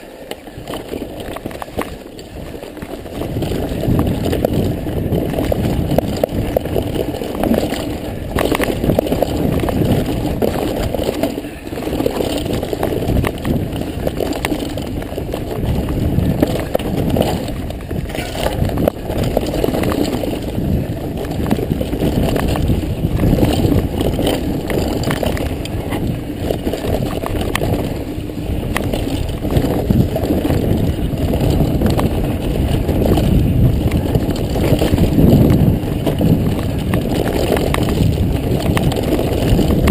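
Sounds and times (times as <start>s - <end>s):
bicycle tyres on dirt: 0.0s - 39.9s
bike rattling over stones: 0.0s - 39.9s
wind on microphone: 0.0s - 39.9s.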